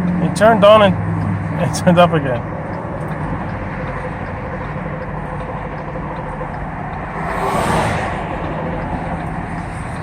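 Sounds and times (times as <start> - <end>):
vehicle noise low hum: 0.0 - 10.0.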